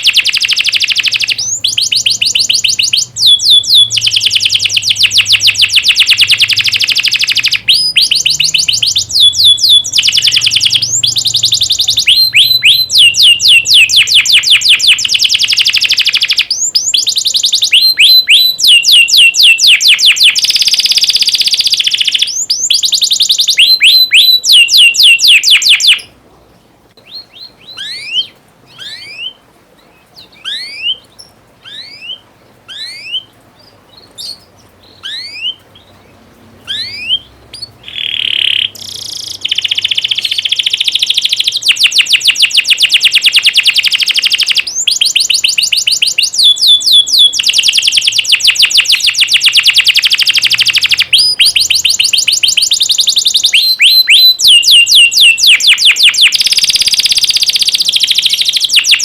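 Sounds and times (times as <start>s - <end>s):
canary chirps and trills: 0.0s - 59.0s.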